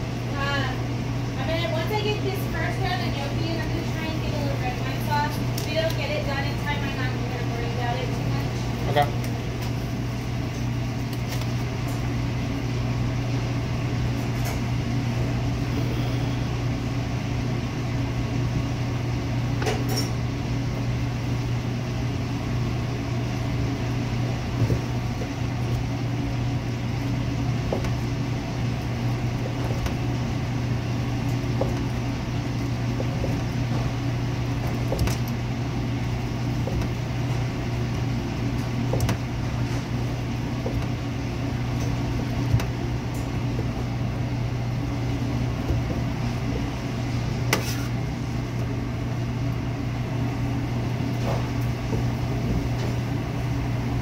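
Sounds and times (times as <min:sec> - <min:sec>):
kitchen machinery humming: 0:00.0 - 0:54.0.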